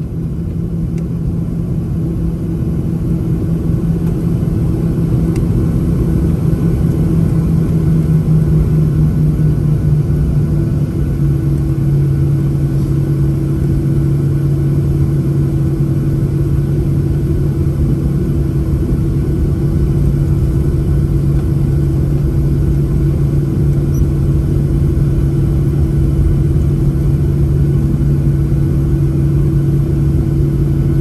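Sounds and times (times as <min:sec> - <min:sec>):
airplane cabin low hum and rumble: 0:00.0 - 0:31.0.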